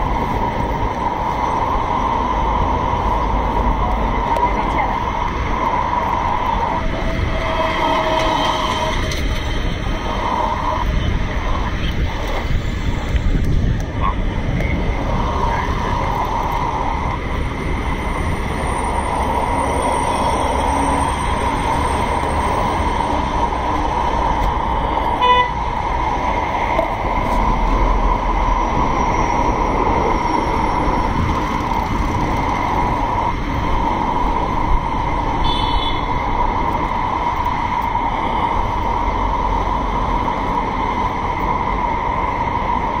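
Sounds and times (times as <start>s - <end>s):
vehicle and rail noise: 0.0s - 43.0s.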